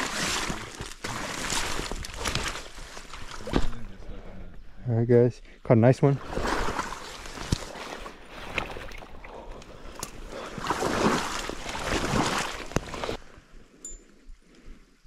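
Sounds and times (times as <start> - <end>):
wading through reeds and water: 0.0 - 3.7, 6.0 - 15.0.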